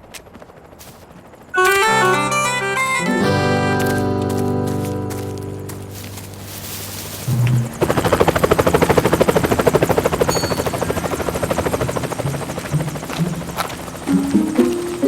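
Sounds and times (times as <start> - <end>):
helicopter rotor blades chopping: 0.0 - 15.0.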